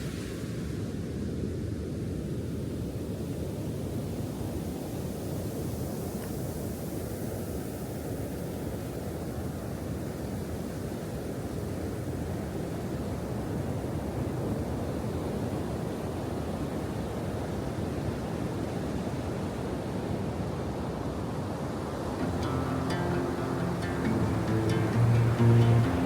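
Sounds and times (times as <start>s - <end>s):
sea: 0.0s - 26.0s
wind: 0.0s - 26.0s.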